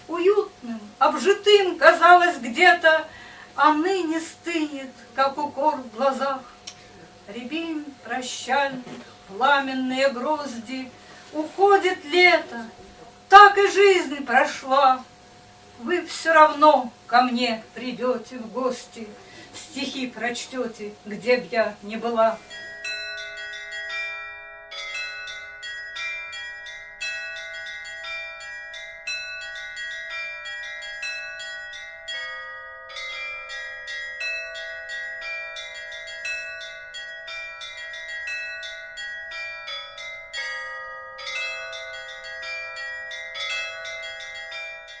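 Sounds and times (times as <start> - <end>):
peal of bells ringing: 0.0 - 45.0.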